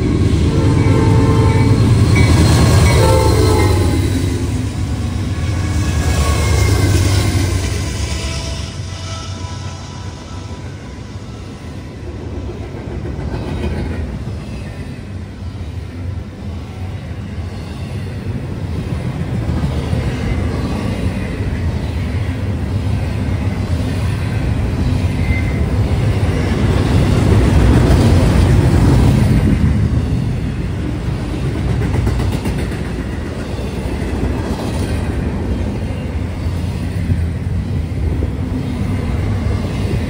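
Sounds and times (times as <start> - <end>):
freight train wheels rumbling on rails: 0.0 - 40.0.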